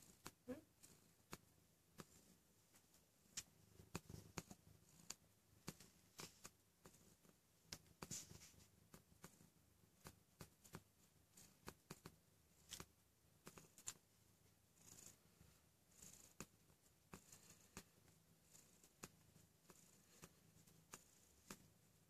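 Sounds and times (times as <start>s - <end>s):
faint soft clicks and rustles: 0.0s - 22.0s.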